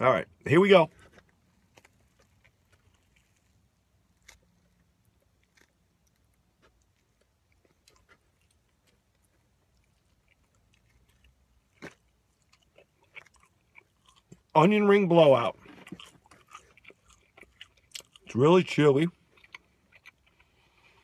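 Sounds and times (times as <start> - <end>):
soft chewing crunches: 0.8 - 21.0.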